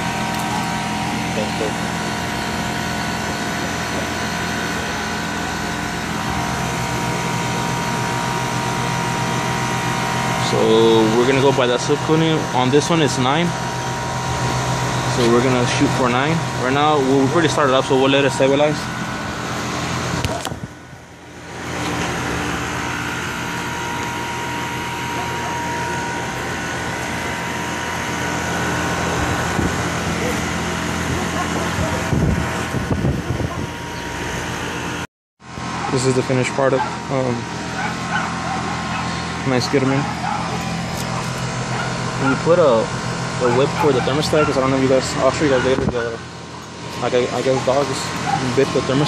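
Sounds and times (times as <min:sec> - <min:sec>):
compressor hum: 0:00.0 - 0:49.0
outdoor fan running: 0:00.0 - 0:49.0.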